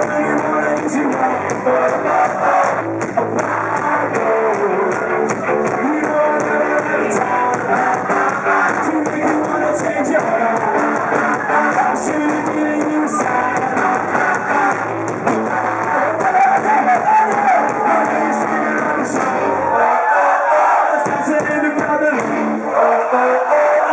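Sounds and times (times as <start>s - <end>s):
drums: 0.0s - 19.8s, 20.9s - 22.8s
electric guitar: 0.0s - 19.8s
rock band playing live: 0.0s - 19.8s, 20.9s - 22.8s
person singing: 0.0s - 23.9s.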